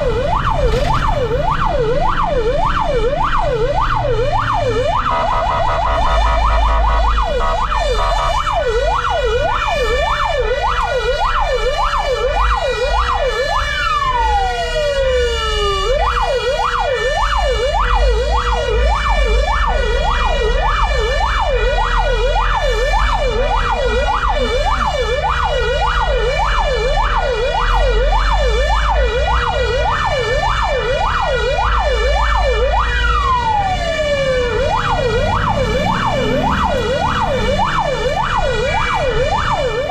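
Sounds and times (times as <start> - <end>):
fire engine siren yelping: 0.0 - 39.9.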